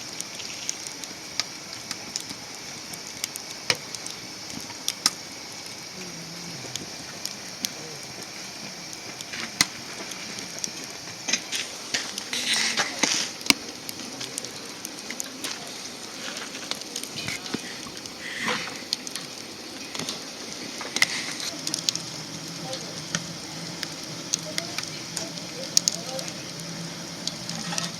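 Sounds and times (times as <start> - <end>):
steady low hiss: 0.0 - 27.9
wood fire crackling: 0.0 - 27.9.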